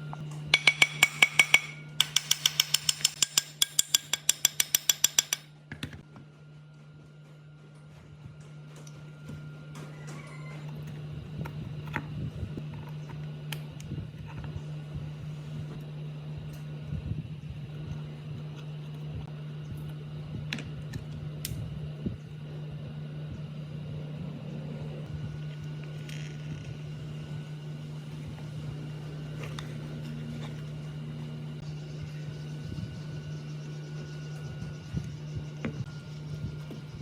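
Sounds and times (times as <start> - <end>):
machine humming: 0.0 - 5.5, 6.3 - 37.0.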